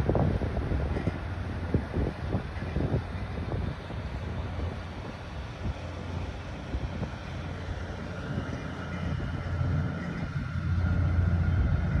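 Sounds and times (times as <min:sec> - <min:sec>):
diesel engine droning: 0:00.0 - 0:12.0
faint steady whine: 0:00.0 - 0:12.0.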